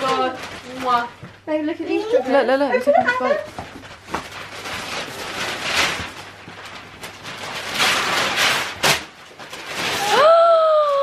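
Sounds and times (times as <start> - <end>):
wrapping paper tearing: 0.0 - 1.2, 3.3 - 11.0.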